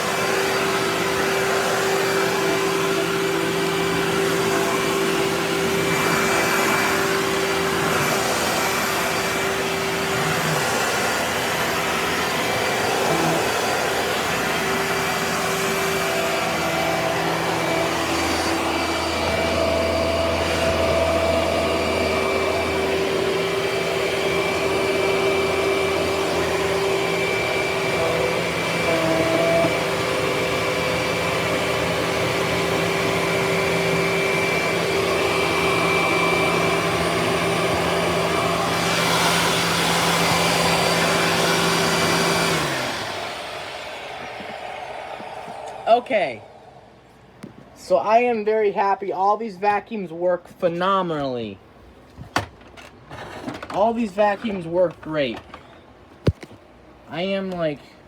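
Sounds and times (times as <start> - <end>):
vacuum cleaner motor whine: 0.0 - 47.6.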